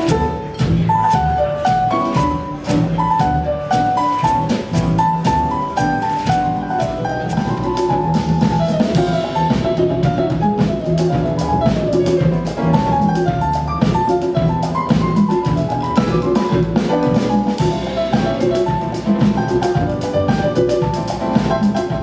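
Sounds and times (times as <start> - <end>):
congas: 0.0 - 22.0
drum kit: 0.0 - 22.0
keyboard piano melody: 0.0 - 22.0
upright double bass: 0.0 - 22.0.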